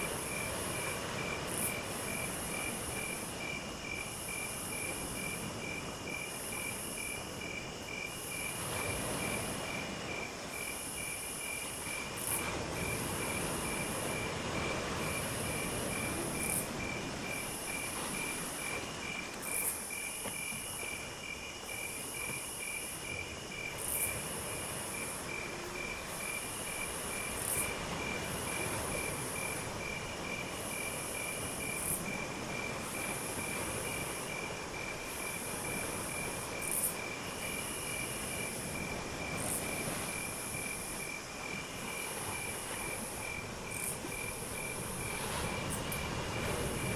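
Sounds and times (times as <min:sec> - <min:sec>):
insect chirping steadily: 0:00.0 - 0:46.9.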